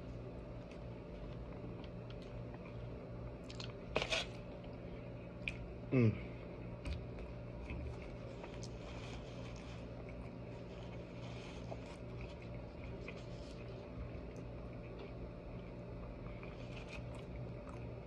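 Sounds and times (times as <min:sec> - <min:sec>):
low room hum: 0:00.0 - 0:18.0
quiet chewing: 0:00.6 - 0:05.7, 0:06.8 - 0:18.0.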